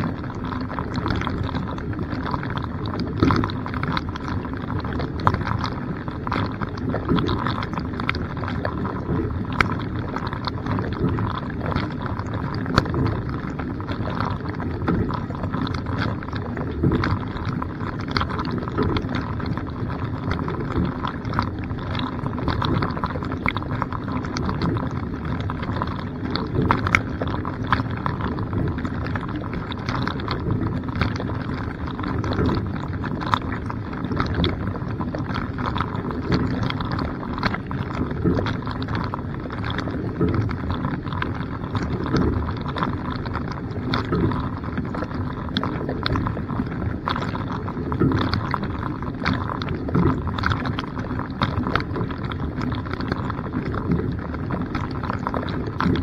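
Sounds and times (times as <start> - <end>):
droplets pattering: 0.0 - 56.0.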